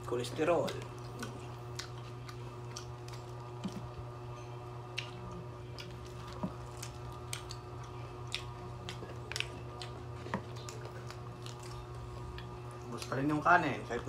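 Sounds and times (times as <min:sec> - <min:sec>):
chewing and eating sounds: 0:00.0 - 0:14.0
low electrical hum: 0:00.0 - 0:14.0.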